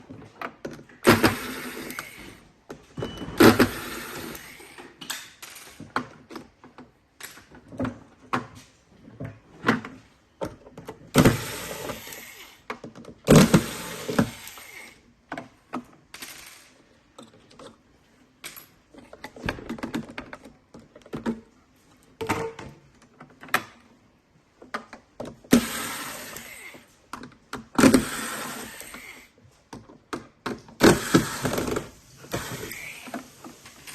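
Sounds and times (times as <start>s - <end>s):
plastic parts clicking and rattling: 0.0s - 33.9s.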